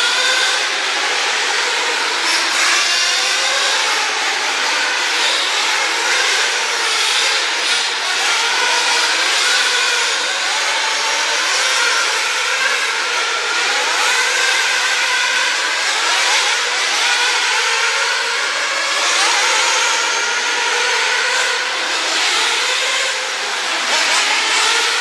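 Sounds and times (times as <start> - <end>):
rc car motors whining: 0.0 - 25.0.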